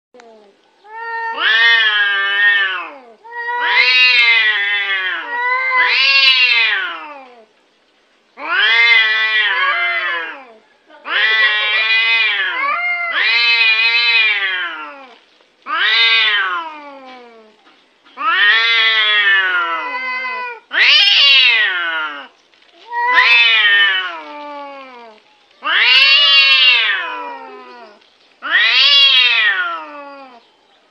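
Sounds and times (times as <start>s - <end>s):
cat meowing: 0.2s - 7.4s, 8.4s - 17.5s, 18.2s - 30.4s.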